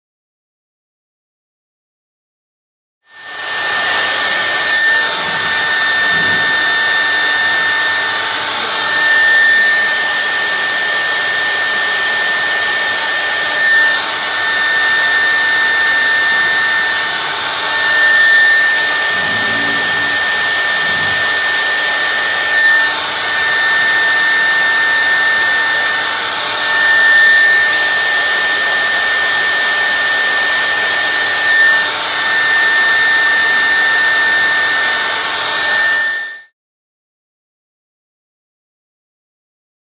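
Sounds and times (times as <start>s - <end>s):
router spindle whining cutting wood: 3.1s - 36.5s.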